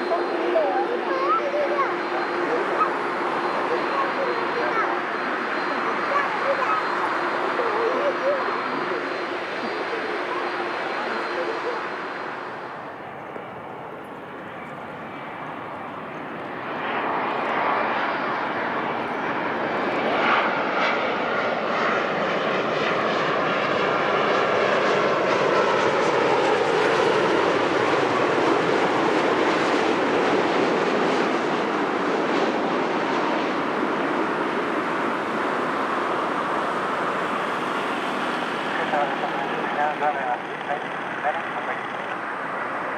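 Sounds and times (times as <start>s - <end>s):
jet airliner engines roaring: 0.0s - 42.9s.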